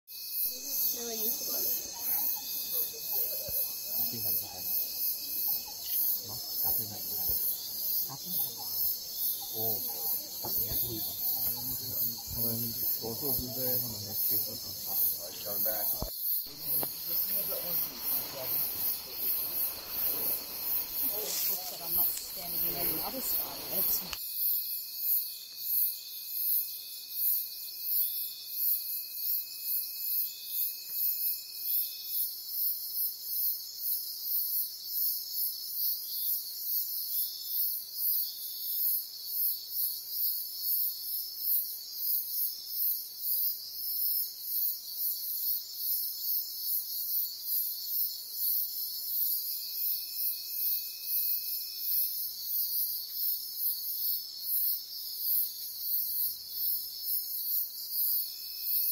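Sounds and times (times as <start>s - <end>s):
insects trilling: 0.1s - 58.9s
steady insect buzz: 0.1s - 58.9s.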